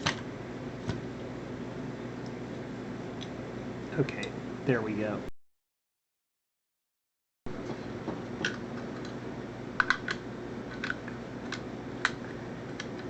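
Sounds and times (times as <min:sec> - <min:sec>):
steady low hum: 0:00.0 - 0:05.4, 0:07.5 - 0:13.0.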